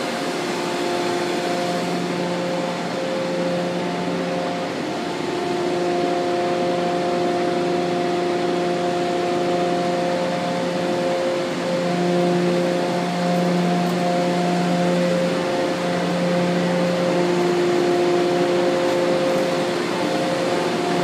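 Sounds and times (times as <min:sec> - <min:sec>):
industrial machinery drone: 0:00.0 - 0:21.0.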